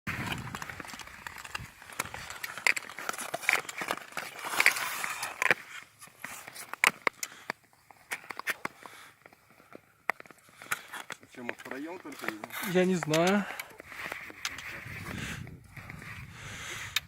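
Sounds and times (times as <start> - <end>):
sharp clicks and crackles: 0.1 - 9.4, 10.0 - 14.8
footsteps crunching: 0.1 - 16.2.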